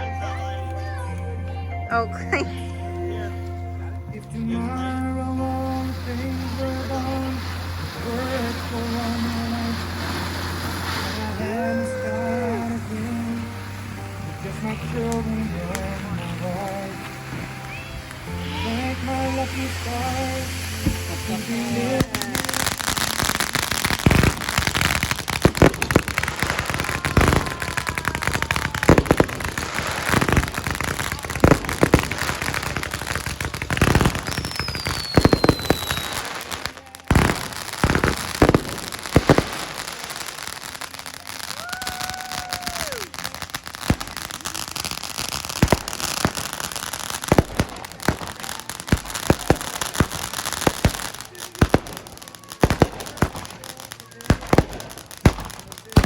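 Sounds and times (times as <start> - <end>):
fireworks crackling: 2.0 - 56.0
fireworks bangs: 4.5 - 56.0.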